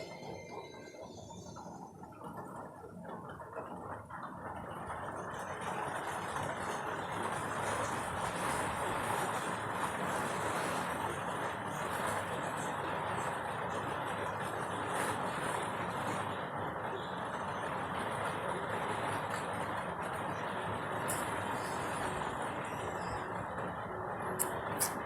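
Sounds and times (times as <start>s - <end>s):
steady noisy rumble: 0.0s - 25.0s.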